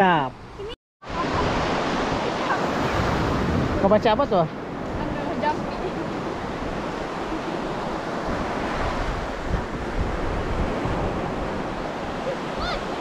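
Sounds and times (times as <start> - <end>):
wind buffeting microphone: 0.4 - 13.0
sea surf washing onto beach: 1.0 - 13.0.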